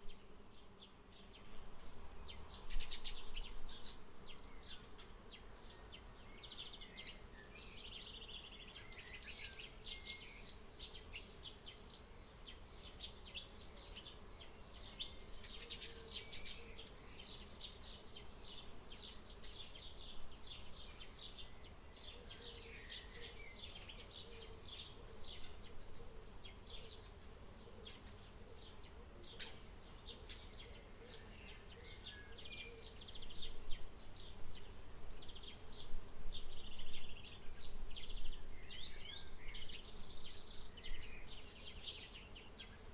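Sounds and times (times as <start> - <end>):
faint insect buzz: 0.0 - 42.9
small birds chirping: 0.0 - 42.9.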